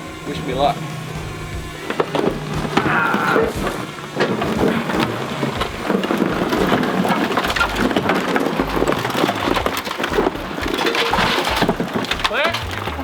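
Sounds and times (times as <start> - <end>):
metal scraping and crunching: 0.0 - 13.0
rust and debris knocking: 0.0 - 13.0.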